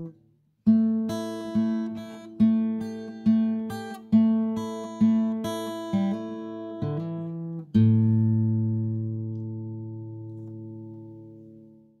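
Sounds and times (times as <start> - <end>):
guitar strummed chords: 0.8 - 11.7.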